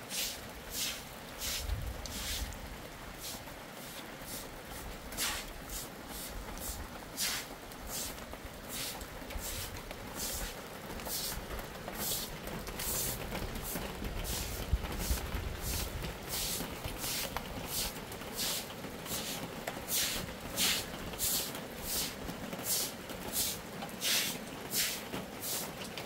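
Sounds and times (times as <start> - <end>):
broom sweeping wet ground: 0.0 - 26.0.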